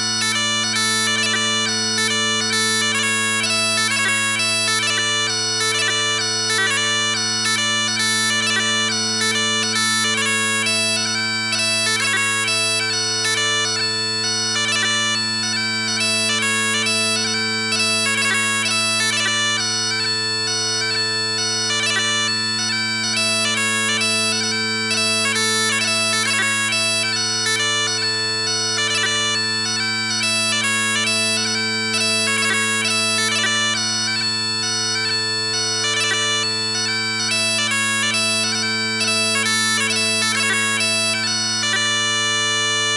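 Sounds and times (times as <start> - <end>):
bagpipe drone: 0.0 - 42.9
bagpipe melody: 0.0 - 42.9.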